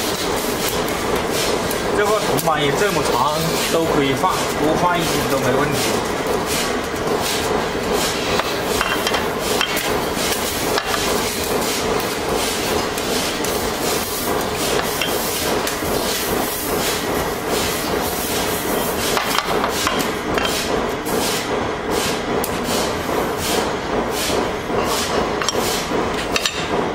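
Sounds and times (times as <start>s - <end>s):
workshop machinery hum: 0.0s - 26.9s.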